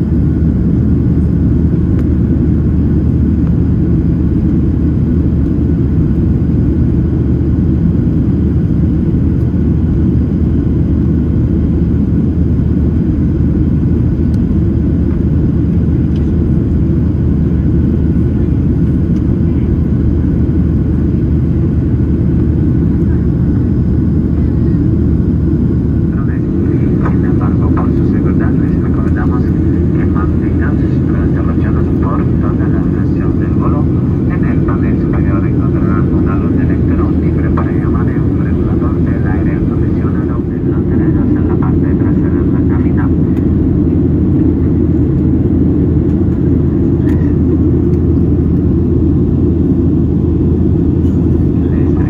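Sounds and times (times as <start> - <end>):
jet engine cabin noise: 0.0 - 52.0.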